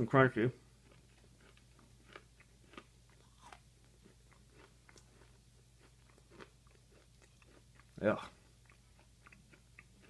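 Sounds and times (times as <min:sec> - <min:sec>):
person chewing brittle gum: 0:00.8 - 0:10.0.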